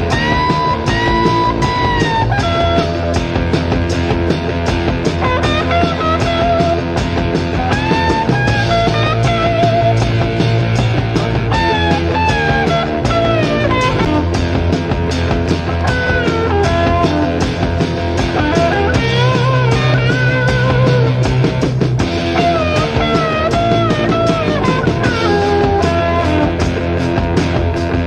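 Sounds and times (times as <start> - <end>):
bass and drums: 0.0 - 28.0
lead electric guitar: 0.0 - 28.0.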